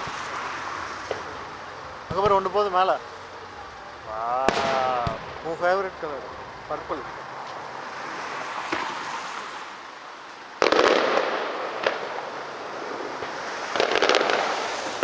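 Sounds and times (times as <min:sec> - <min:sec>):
fireworks sharp crack: 0:00.0 - 0:03.2, 0:04.0 - 0:15.0
fireworks bursting and crackling: 0:00.0 - 0:15.0.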